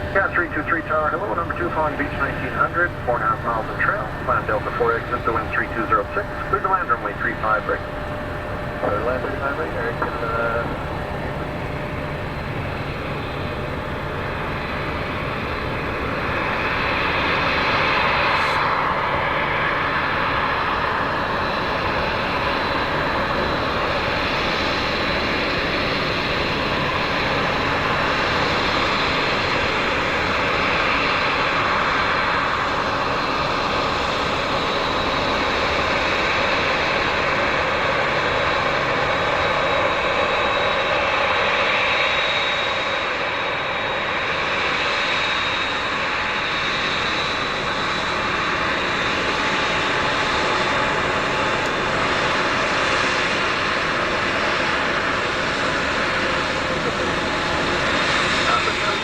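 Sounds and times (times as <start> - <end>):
aircraft engines running: 0.0 - 59.0.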